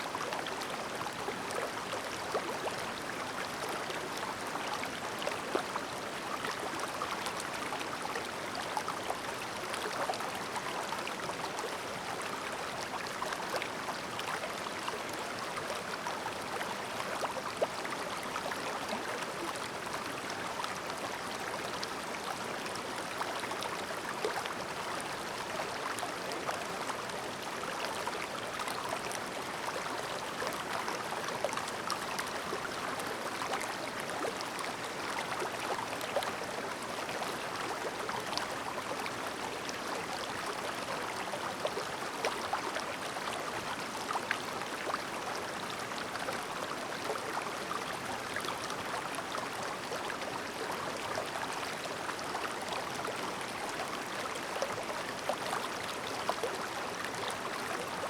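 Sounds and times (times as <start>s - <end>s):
mountain stream babbling: 0.0s - 58.0s.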